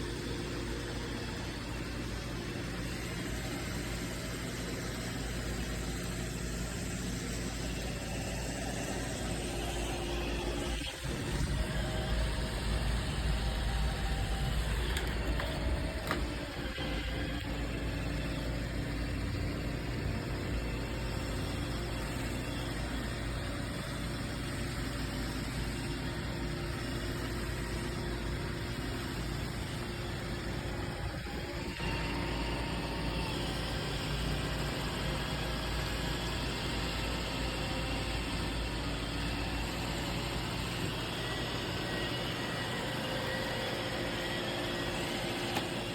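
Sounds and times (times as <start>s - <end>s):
robot vacuum motor hum: 0.0s - 45.9s.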